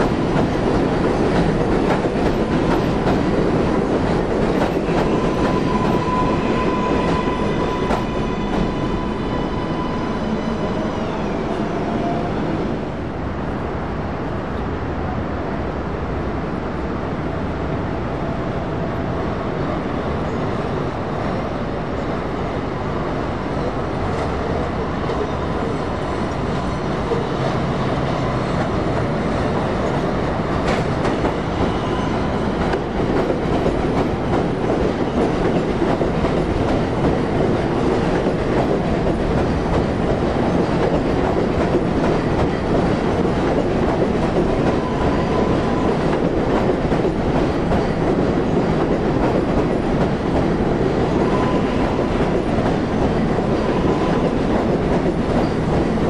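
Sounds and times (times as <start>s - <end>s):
subway train rumbling: 0.0s - 56.0s.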